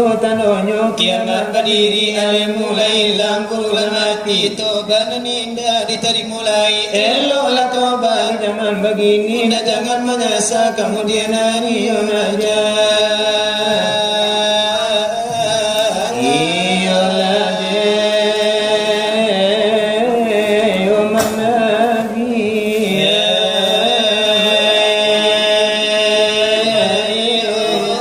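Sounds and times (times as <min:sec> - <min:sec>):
voice chanting melismatic notes: 0:00.0 - 0:28.0.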